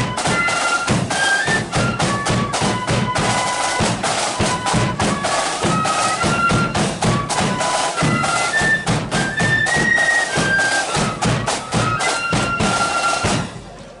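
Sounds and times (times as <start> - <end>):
snare drums: 0.0 - 13.7
flute melody: 0.0 - 13.8.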